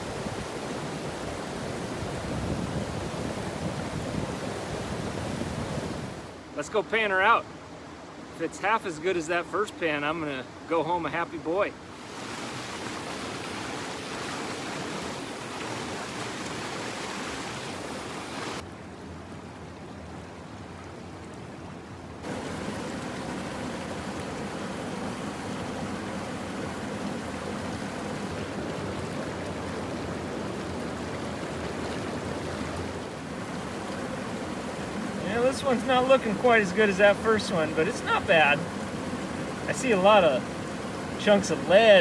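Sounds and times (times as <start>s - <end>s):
river water rushing: 0.0s - 19.1s, 22.2s - 42.0s.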